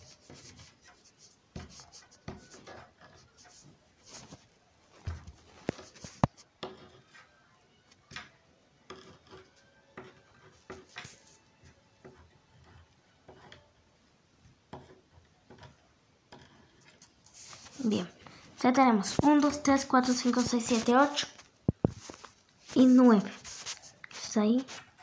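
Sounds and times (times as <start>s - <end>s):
pen scratching on paper: 0.0s - 7.3s, 8.9s - 13.6s, 14.7s - 25.0s.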